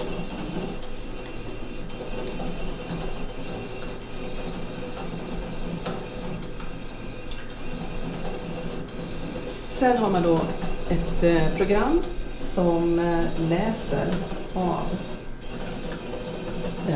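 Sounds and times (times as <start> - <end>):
electrical hum: 0.0 - 16.9.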